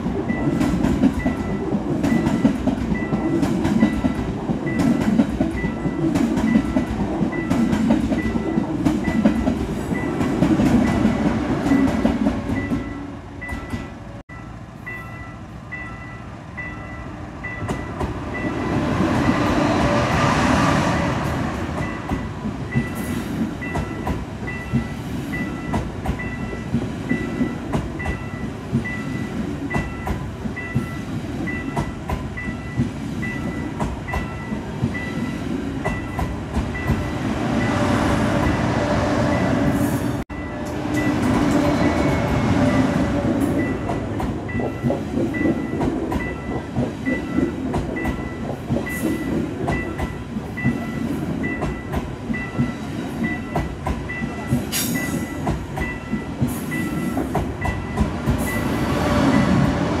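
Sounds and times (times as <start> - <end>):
level-crossing warning bell: 0.0 - 19.8, 20.9 - 59.8
train wheels rumbling on rail: 0.0 - 60.0.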